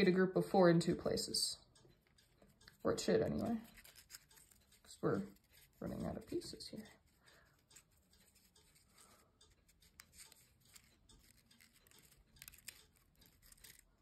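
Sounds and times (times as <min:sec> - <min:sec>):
paper crinkling and clicking: 0:02.2 - 0:14.0.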